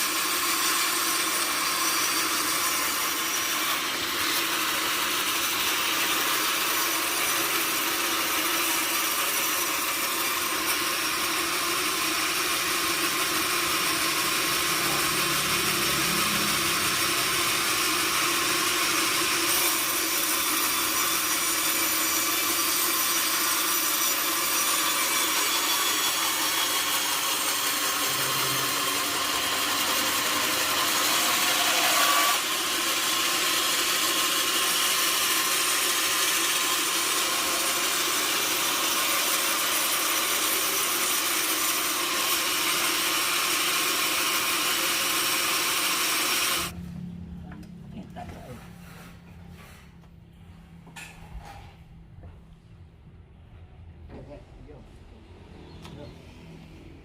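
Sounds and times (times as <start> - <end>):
sawmill saw cutting log: 0.0 - 46.8.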